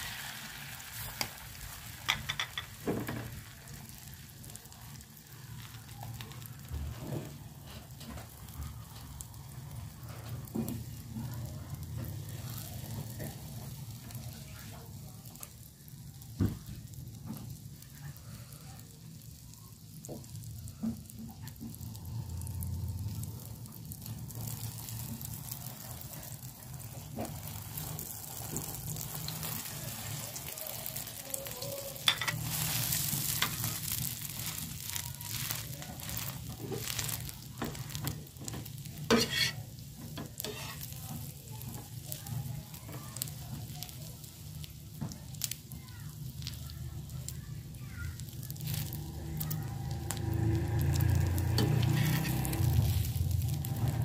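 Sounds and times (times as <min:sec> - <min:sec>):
egg sizzling on a griddle: 0:00.0 - 0:54.0.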